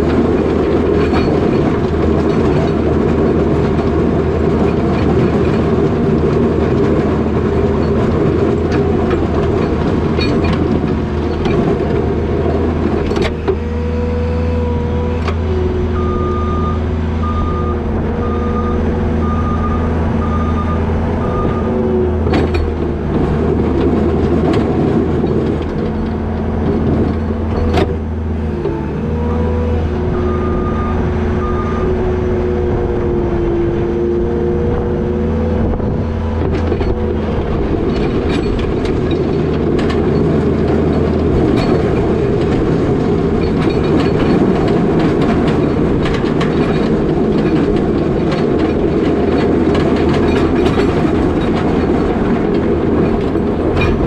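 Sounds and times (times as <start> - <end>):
clatter and knocks from plow: 0.0 - 31.8, 35.2 - 54.0
skid steer diesel engine running hard: 0.0 - 54.0.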